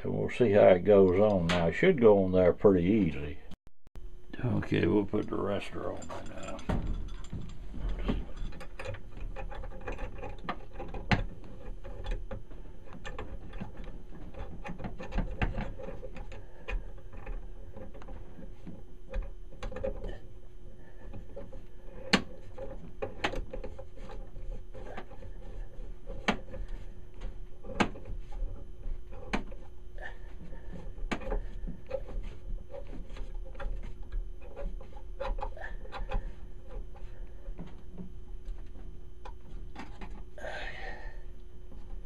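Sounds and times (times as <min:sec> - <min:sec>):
clicks knocks and scraping of plumbing part: 0:05.1 - 0:40.4.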